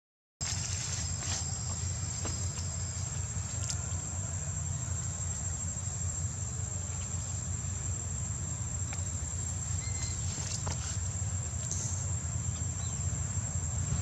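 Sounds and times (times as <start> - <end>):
high-pitched insect drone: 0.4 - 14.0.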